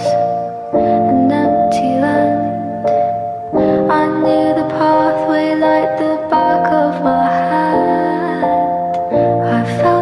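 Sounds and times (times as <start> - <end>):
gentle lullaby-like music: 0.0 - 10.0.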